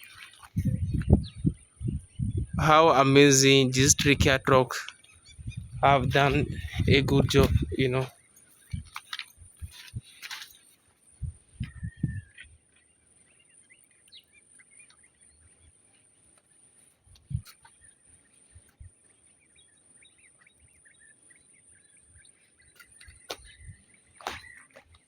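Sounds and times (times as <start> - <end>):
faint birds chirping: 0.0 - 25.0.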